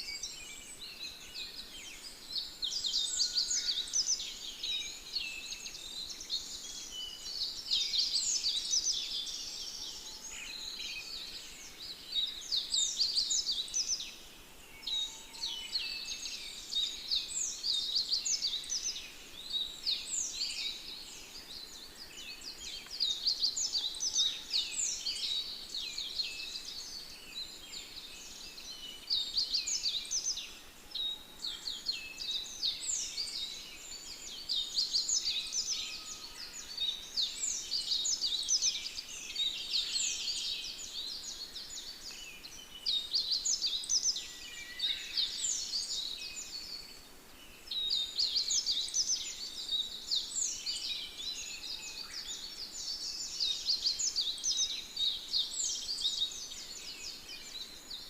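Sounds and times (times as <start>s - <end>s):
songbirds chorus: 0.0s - 58.0s.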